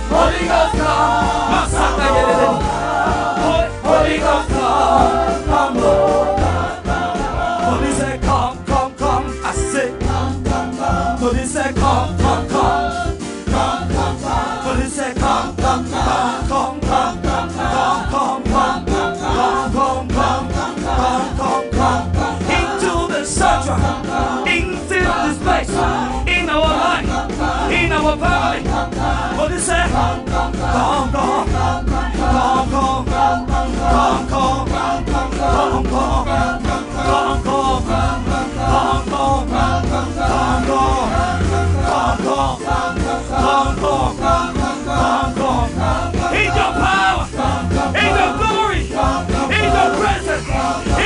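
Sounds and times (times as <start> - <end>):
choir singing with a band: 0.0 - 51.0.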